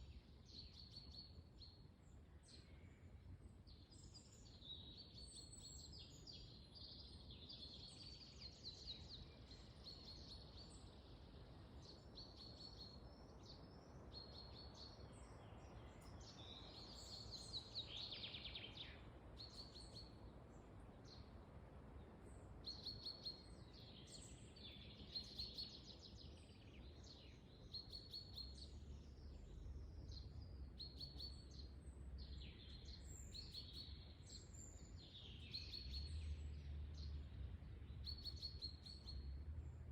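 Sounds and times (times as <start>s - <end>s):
low rumble of wind: 0.0s - 39.9s
songbirds chirping and trilling: 0.0s - 39.9s.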